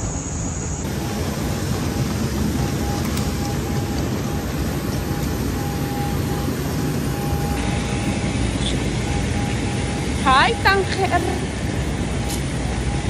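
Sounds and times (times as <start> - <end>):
jet aircraft roar: 0.0 - 13.0
thin whine: 0.0 - 13.0.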